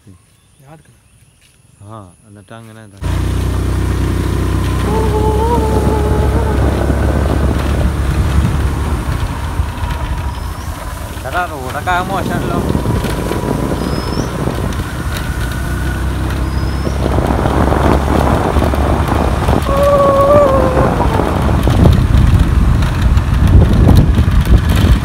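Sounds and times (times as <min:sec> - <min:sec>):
motorbike engine and wind rumble: 0:02.9 - 0:25.0.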